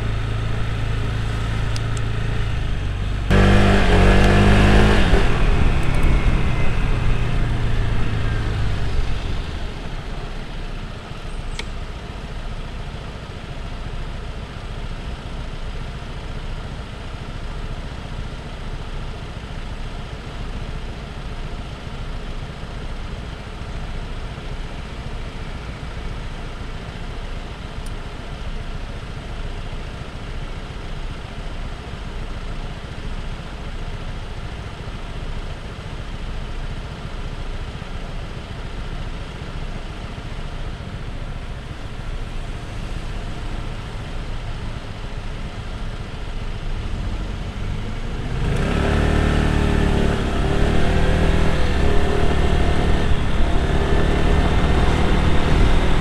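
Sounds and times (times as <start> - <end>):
scooter engine idling and revving: 0.0 - 56.0.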